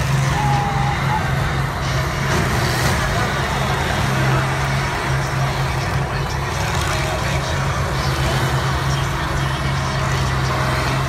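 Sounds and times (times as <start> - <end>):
combine harvester engines droning: 0.0 - 11.0.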